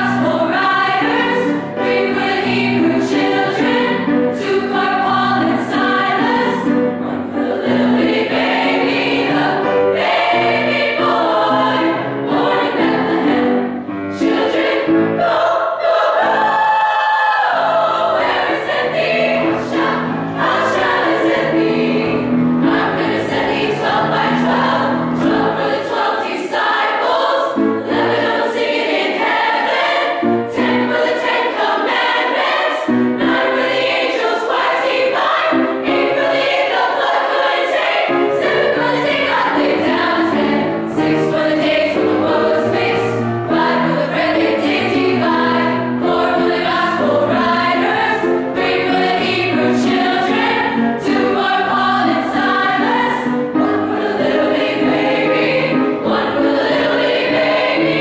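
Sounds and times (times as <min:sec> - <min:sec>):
girls' choir singing in harmony: 0:00.0 - 0:58.0.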